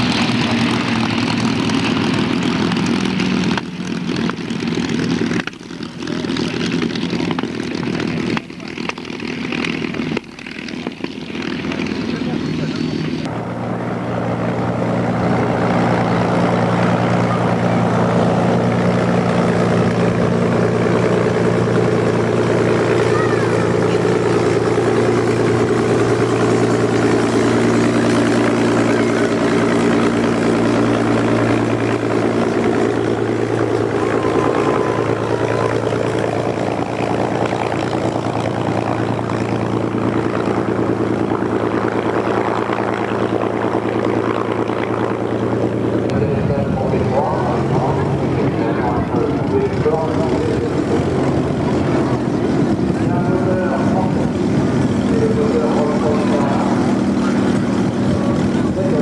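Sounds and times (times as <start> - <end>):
propeller engines idling: 0.0 - 59.0.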